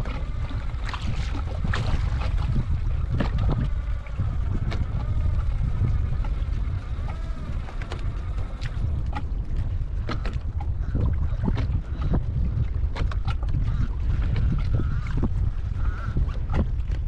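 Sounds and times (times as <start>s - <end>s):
water splashing against kayak hull: 0.0s - 17.0s
wind buffeting microphone: 0.0s - 17.0s.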